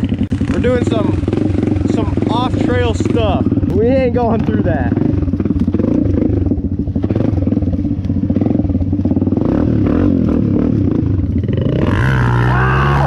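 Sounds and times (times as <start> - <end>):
bike rattling over bumps: 0.0 - 12.4
dirt bike engine running: 0.0 - 13.0.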